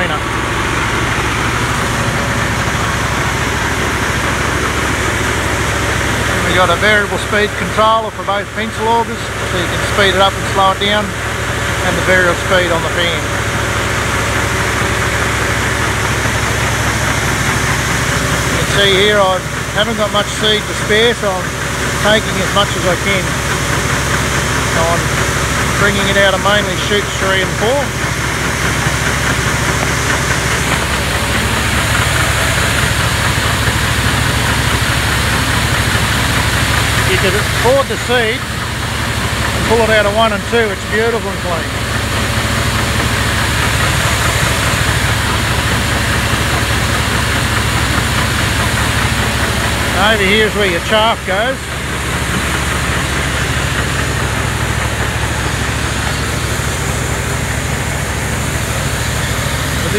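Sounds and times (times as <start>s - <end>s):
fan hissing: 0.0s - 59.9s
small generator engine hum: 0.0s - 59.9s.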